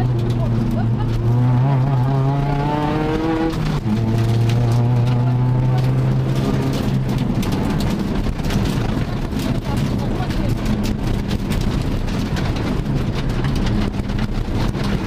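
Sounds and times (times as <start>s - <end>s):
car engine pulling hard: 0.0s - 15.0s
road noise: 0.0s - 15.0s.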